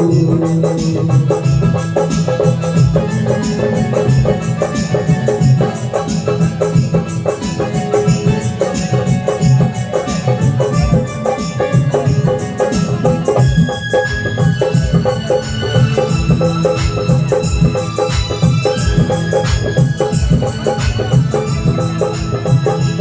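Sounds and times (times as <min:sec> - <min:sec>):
instrumental stage band music: 0:00.0 - 0:23.0.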